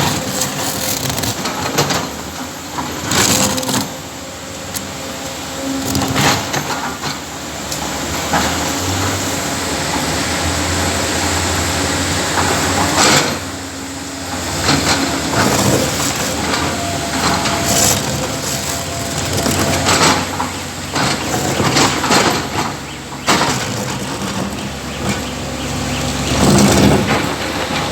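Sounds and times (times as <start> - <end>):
excavator clanks and bangs: 0.0 - 9.3, 11.2 - 27.9
excavator diesel engine running: 0.0 - 27.9.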